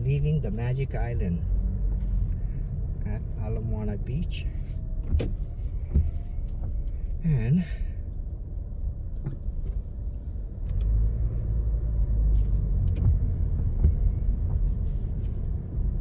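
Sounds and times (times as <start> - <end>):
engine and road rumble: 0.0 - 16.0.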